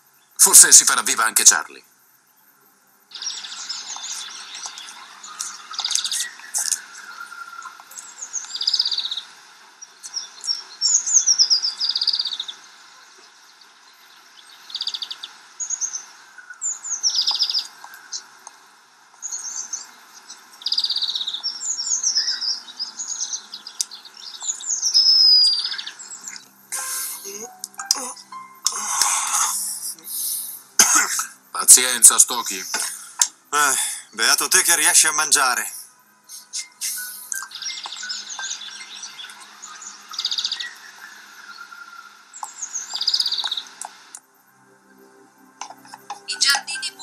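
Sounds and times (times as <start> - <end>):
faint background hiss: 0.0 - 47.0
songbirds trilling: 3.1 - 44.2.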